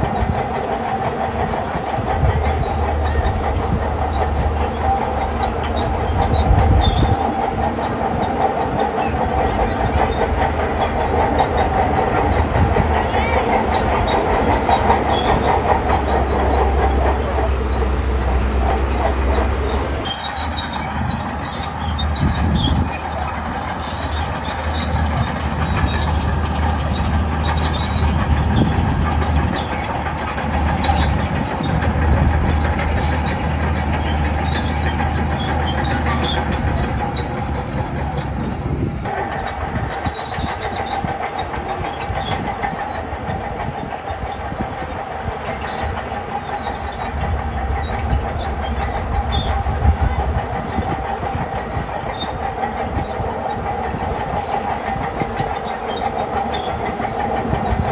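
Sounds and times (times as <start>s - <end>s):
bulldozer diesel engine under load: 0.0s - 57.9s
steady high squeal: 0.0s - 57.9s
steel tracks clanking: 0.0s - 57.9s.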